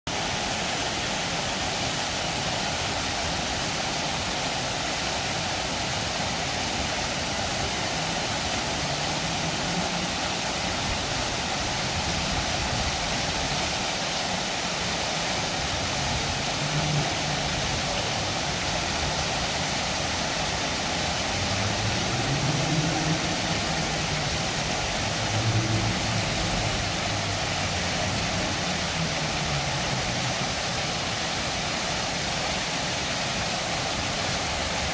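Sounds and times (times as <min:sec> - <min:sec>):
fountain splashing into basin: 0:00.1 - 0:34.9.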